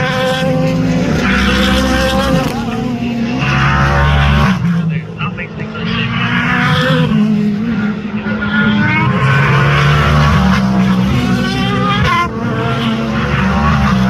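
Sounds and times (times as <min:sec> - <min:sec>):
race car engines accelerating: 0:00.0 - 0:14.0.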